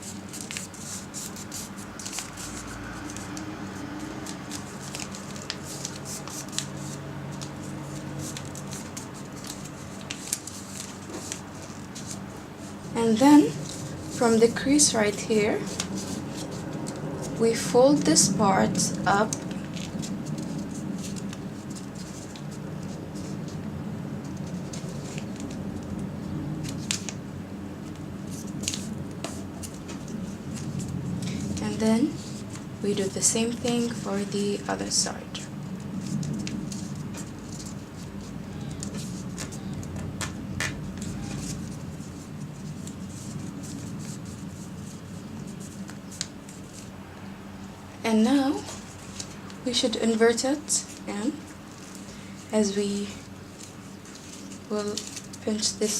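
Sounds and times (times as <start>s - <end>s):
paper folding and rustling: 0.0s - 18.2s, 18.9s - 47.0s, 48.5s - 55.9s
low steady hum: 0.0s - 55.9s.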